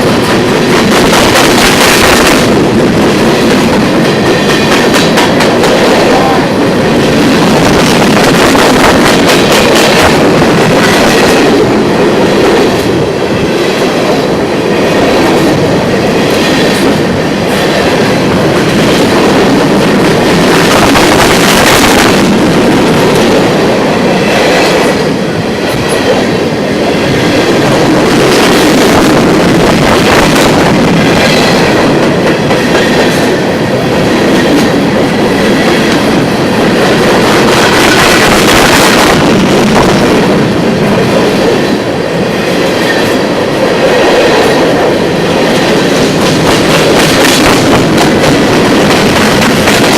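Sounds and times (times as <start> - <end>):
train wheels clacking over rails: 0.0 - 49.9.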